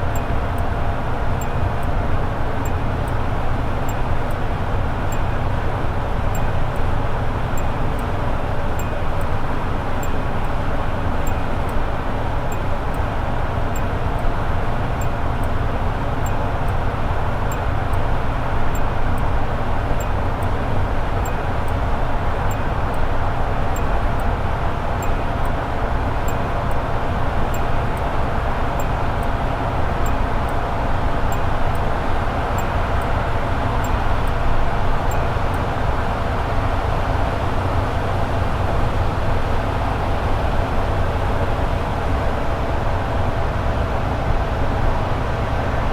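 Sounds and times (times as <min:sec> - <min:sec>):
road noise: 0:00.0 - 0:45.9.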